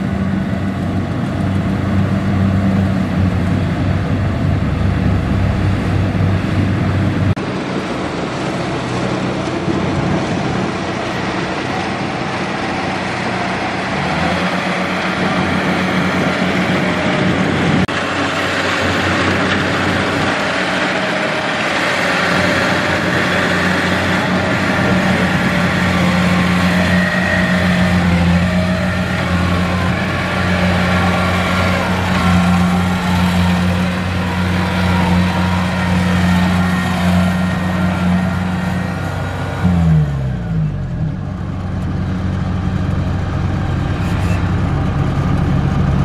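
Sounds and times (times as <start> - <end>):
combine harvester diesel engine: 0.0 - 46.0.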